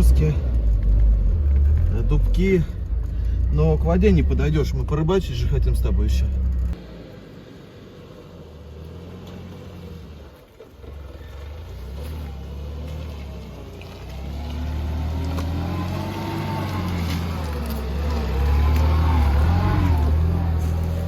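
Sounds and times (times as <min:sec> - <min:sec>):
van engine running: 0:00.0 - 0:21.0.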